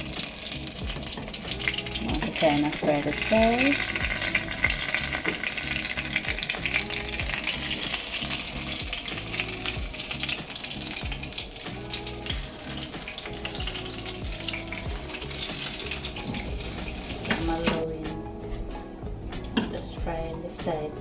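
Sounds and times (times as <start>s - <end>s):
dough sizzling in hot oil: 0.0s - 17.8s
background music: 0.0s - 21.0s.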